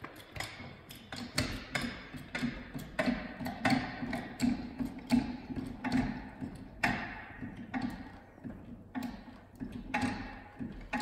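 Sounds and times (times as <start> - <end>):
floor jack knocking and creaking: 0.0 - 11.0.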